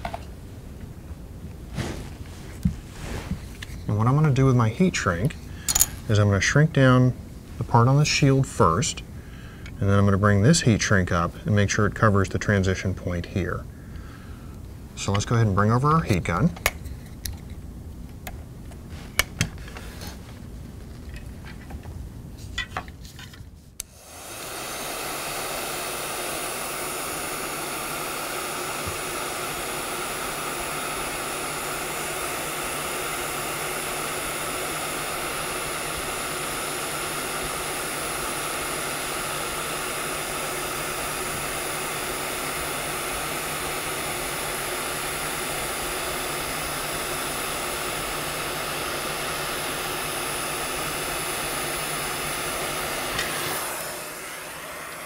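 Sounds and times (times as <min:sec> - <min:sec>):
heat gun fan humming: 0:00.0 - 0:23.0, 0:23.8 - 0:55.0.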